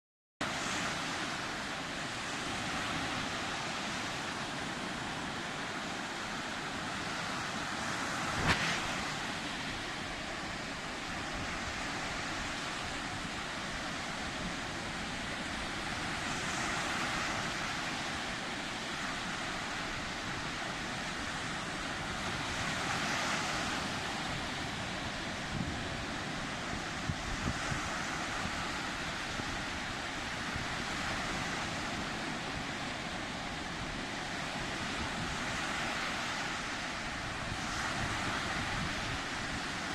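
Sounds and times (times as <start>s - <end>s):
waves breaking and washing in: 0.4s - 39.9s.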